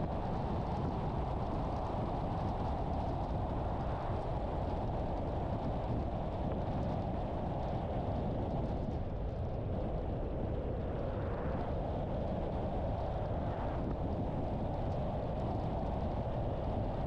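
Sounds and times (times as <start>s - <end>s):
car road and tyre noise: 0.0s - 17.0s.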